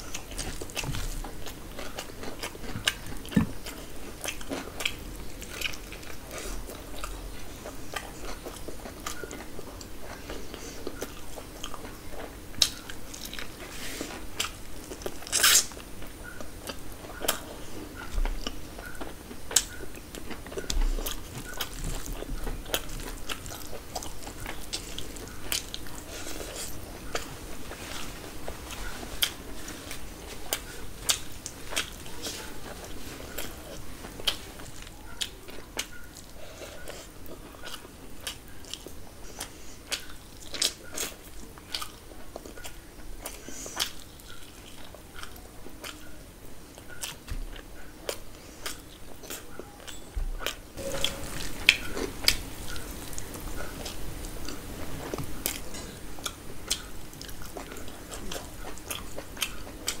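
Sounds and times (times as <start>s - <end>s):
person chewing and lip-smacking: 0.0s - 13.6s, 14.4s - 46.2s, 46.8s - 60.0s.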